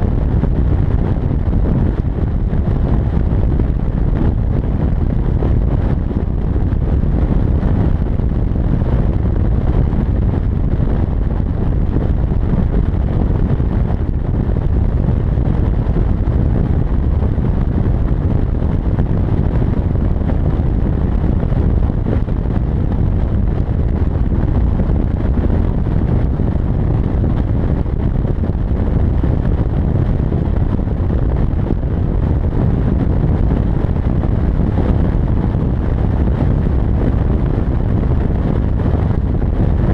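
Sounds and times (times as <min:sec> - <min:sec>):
truck road noise at speed: 0:00.0 - 0:39.9
wind rumbling on microphone: 0:00.0 - 0:39.9.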